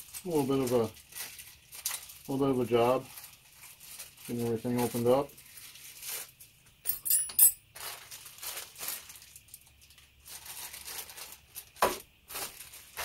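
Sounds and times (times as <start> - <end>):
plastic bags crinkling: 0.0 - 6.6, 7.6 - 13.0.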